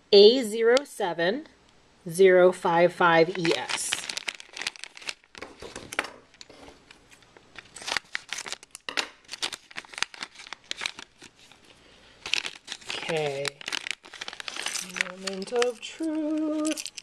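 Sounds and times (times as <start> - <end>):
plastic bag tearing and crinkling: 3.3 - 17.0.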